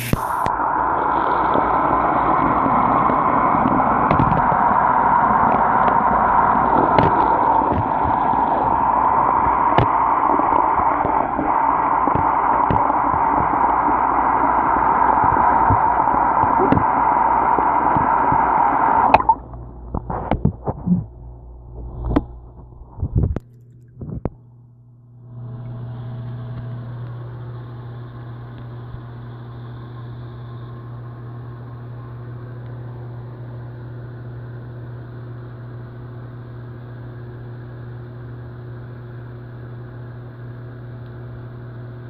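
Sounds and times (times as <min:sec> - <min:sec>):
electrical hum with low drone: 0:00.0 - 0:42.0.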